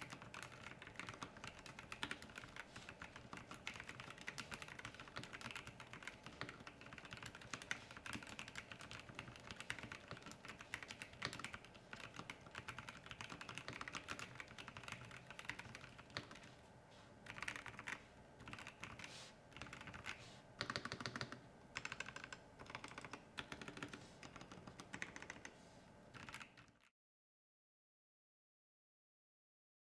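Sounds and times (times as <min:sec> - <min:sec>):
mechanical keyboard typing: 0:00.0 - 0:16.5, 0:17.3 - 0:25.5, 0:26.1 - 0:26.9.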